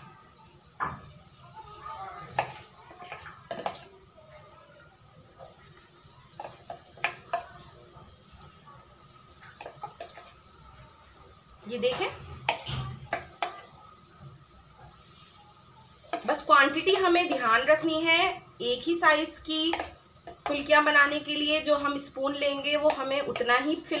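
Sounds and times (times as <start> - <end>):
fritters sizzling in hot oil: 0.0 - 24.0.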